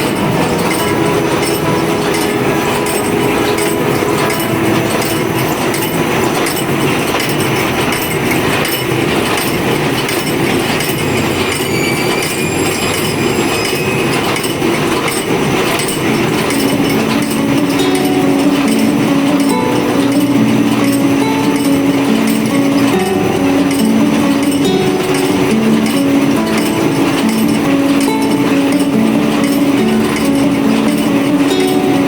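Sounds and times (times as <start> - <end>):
factory machinery din: 0.0 - 32.0.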